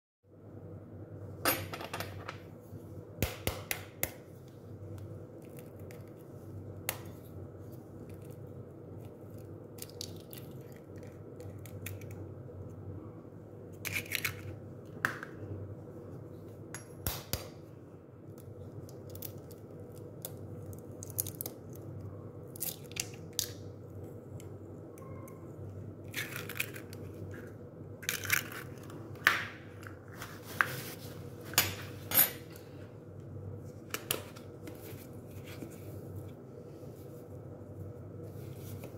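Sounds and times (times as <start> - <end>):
low steady hum: 0.3 - 38.9.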